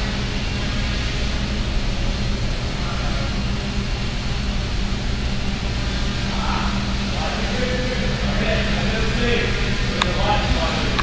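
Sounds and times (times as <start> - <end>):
drone rotors humming: 0.0 - 11.0.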